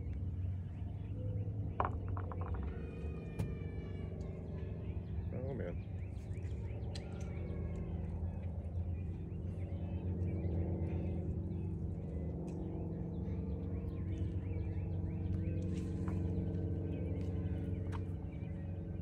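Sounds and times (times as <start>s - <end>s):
low engine hum: 0.0s - 19.0s
small birds chirping: 0.0s - 19.0s.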